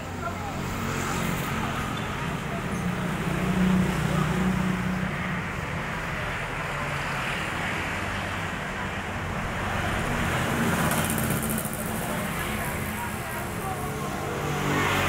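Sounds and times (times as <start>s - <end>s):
passing motorbikes and cars: 0.0s - 15.0s.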